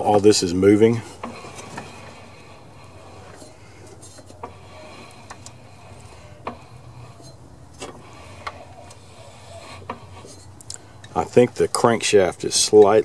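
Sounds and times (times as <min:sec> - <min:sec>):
lawn mower blade turned by hand: 0:00.0 - 0:13.0.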